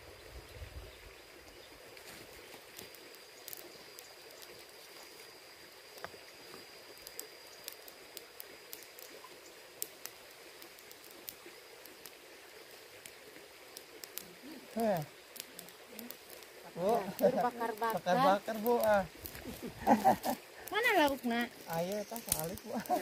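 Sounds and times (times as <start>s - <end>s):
quiet hiss: 0.0s - 23.0s
sharp clicks and crackles: 2.7s - 5.2s, 5.9s - 12.2s, 12.8s - 23.0s.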